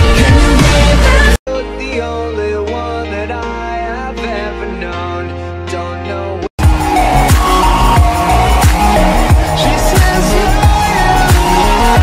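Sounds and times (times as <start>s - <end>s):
electronic track with deep bass: 0.0s - 12.0s
song with sustained notes: 0.0s - 12.0s.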